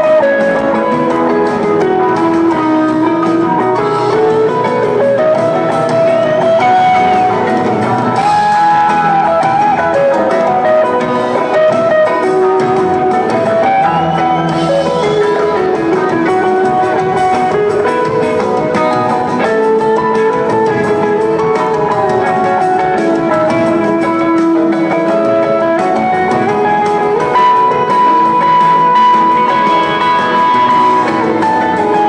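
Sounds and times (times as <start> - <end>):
electric guitar lines: 0.0 - 32.0
live rock band: 0.0 - 32.0.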